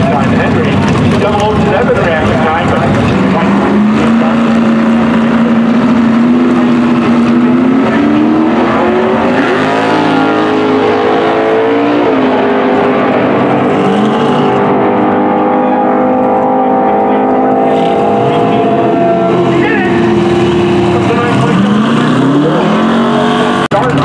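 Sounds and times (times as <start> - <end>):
racing car engines accelerating: 0.0 - 24.0.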